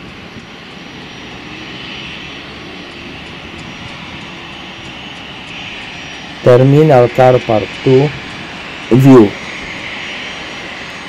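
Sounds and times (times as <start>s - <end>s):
airliner jet engines rushing: 0.0s - 11.0s.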